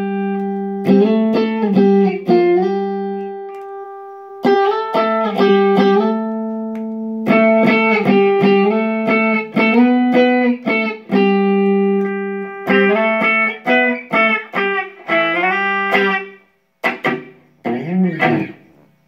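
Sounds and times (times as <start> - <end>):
electric guitar notes and chords: 0.0 - 19.0.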